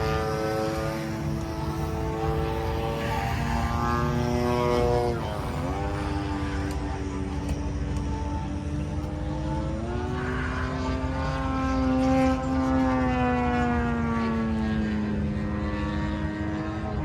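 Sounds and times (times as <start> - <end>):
model airplane motor whining: 0.0 - 17.0.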